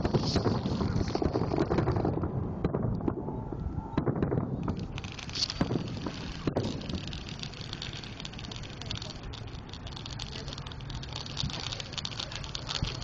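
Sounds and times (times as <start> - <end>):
fireworks popping and crackling: 0.0 - 3.2, 4.0 - 13.0.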